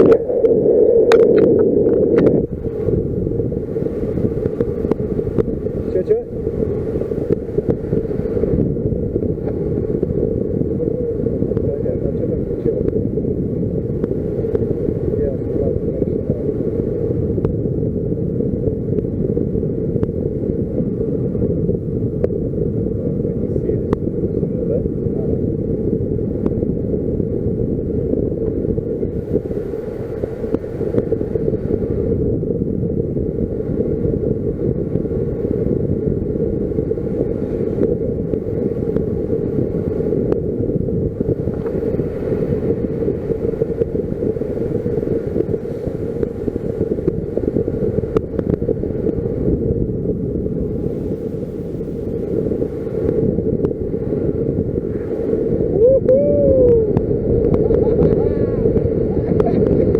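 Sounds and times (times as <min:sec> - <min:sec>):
motor drone: 0:00.0 - 0:59.9
wind rushing over microphone: 0:00.0 - 0:59.9.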